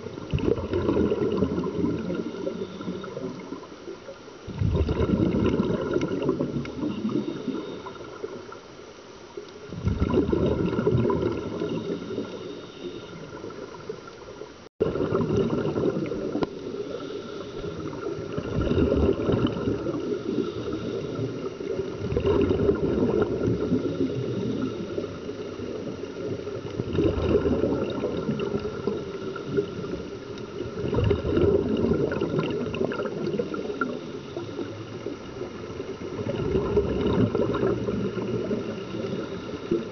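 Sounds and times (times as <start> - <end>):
regulator bubbles underwater: 0.0 - 39.9.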